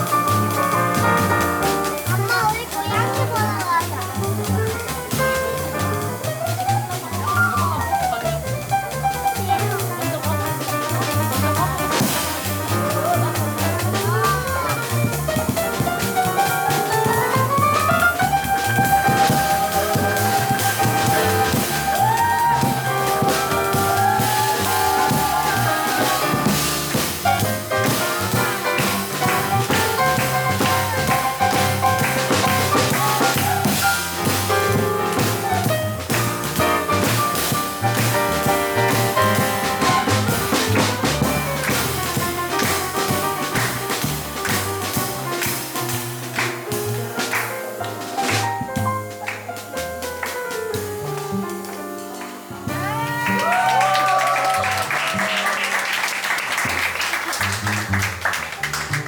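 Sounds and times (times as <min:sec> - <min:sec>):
busy drums: 0:00.0 - 0:59.0
jazz trio playing: 0:00.0 - 0:59.0.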